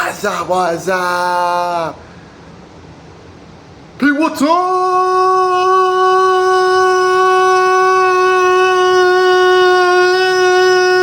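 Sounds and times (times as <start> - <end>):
man yelling: 0.0 - 2.0, 4.0 - 11.0.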